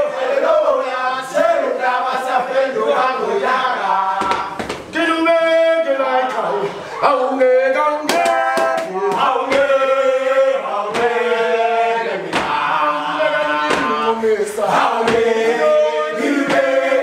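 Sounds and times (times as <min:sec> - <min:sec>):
young voices chanting in unison: 0:00.0 - 0:04.7, 0:05.8 - 0:17.0.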